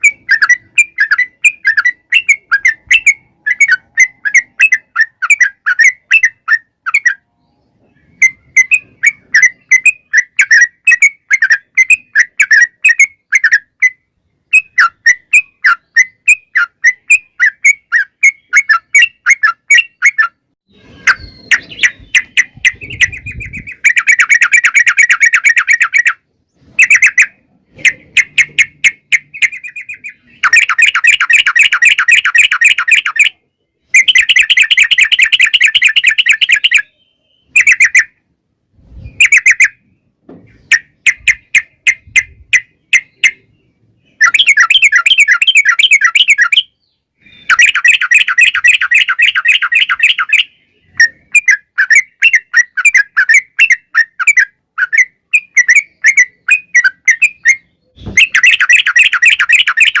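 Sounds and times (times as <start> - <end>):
bulbul singing chattering notes: 0.0 - 7.3, 8.0 - 38.3, 40.6 - 60.0.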